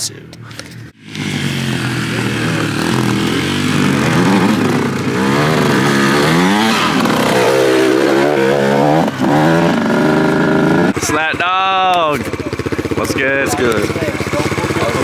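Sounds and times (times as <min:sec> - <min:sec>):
dirt bike engine revving: 0:01.0 - 0:15.0.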